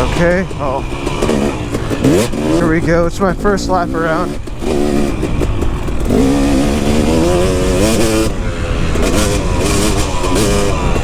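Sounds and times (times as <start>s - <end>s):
motocross bike accelerating: 0.0s - 11.0s.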